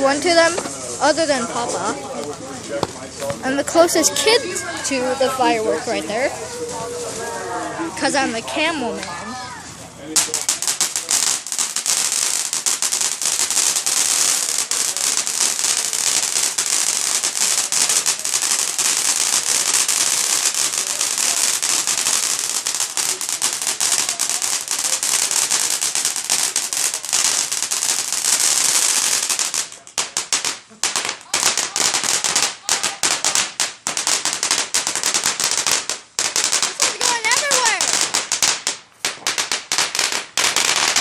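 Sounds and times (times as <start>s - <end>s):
firework crackling pops: 0.0s - 6.9s, 8.0s - 41.0s.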